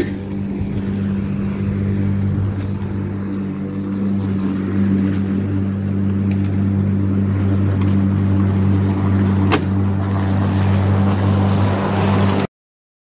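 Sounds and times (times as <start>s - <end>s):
electric lawnmower running: 0.0s - 12.5s.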